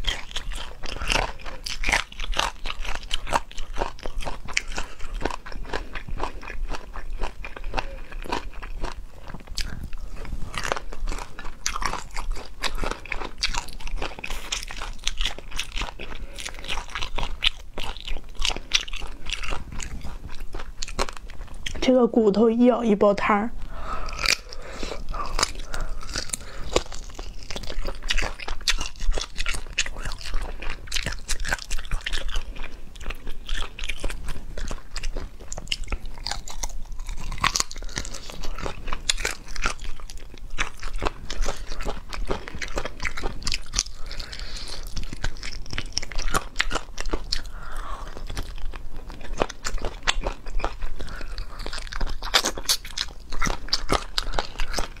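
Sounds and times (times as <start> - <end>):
person chewing crunchy food: 0.0 - 22.0, 23.6 - 55.0.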